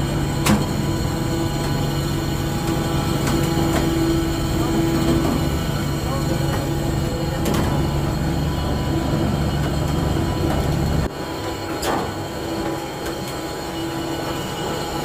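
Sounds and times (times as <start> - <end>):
ship engine droning: 0.0 - 15.0.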